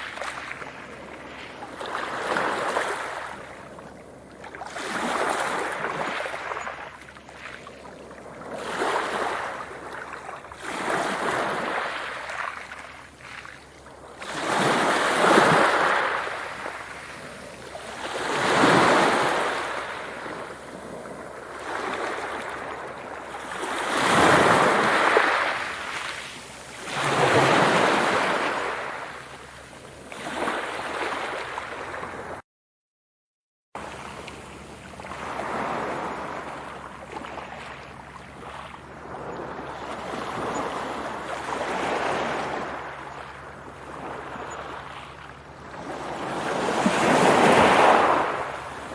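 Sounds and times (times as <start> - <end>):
ocean waves washing in: 0.0 - 32.4, 33.8 - 48.9.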